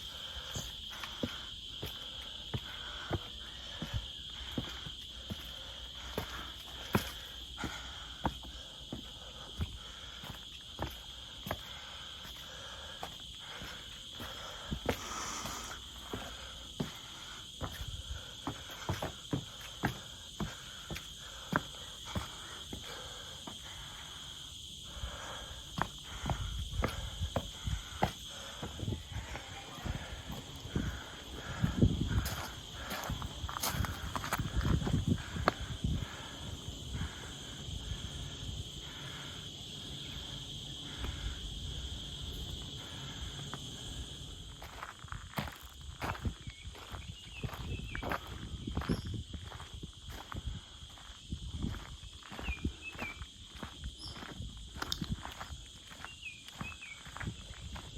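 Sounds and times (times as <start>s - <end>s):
faint pulsing chirping: 0.0s - 54.8s, 55.4s - 57.9s
footsteps crunching on trail: 0.0s - 57.9s
insects droning: 0.0s - 57.9s.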